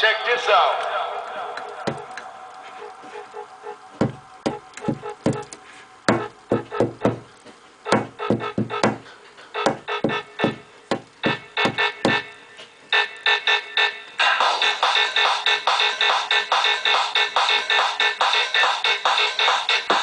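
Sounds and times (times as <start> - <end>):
techno music: 0.0 - 7.3, 7.9 - 9.0, 9.6 - 12.4, 13.0 - 20.0.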